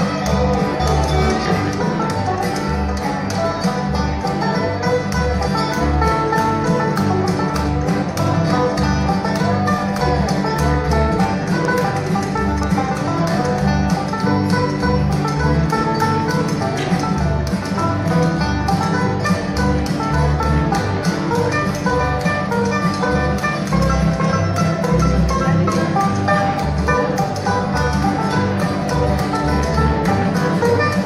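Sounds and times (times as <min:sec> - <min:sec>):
banjo picking fast lead: 0:00.0 - 0:31.0
bluegrass band playing: 0:00.0 - 0:31.0.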